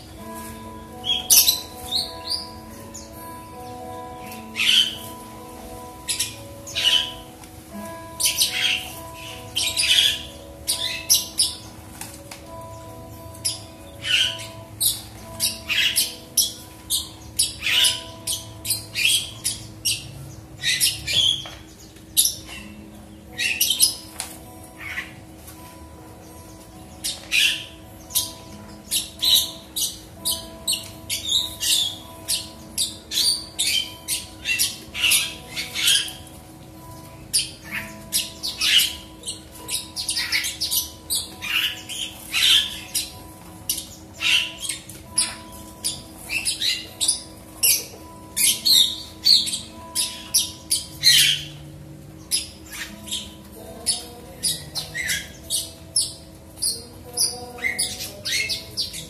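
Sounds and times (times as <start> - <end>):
bird chirping song: 0.0 - 59.0.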